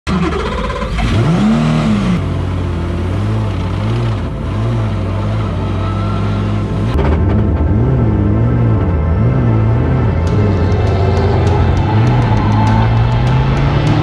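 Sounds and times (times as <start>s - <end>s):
racing car engine revving: 0.1s - 14.0s.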